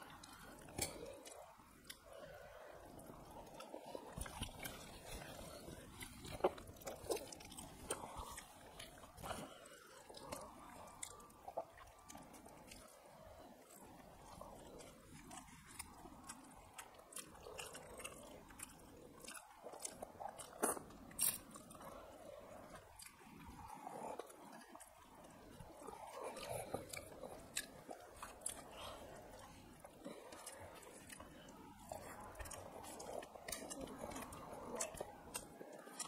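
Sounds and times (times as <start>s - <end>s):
people chewing: 0.0s - 36.0s.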